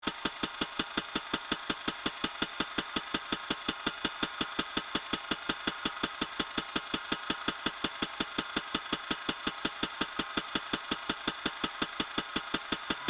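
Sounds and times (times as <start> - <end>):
fast electronic ticks: 0.0 - 13.0.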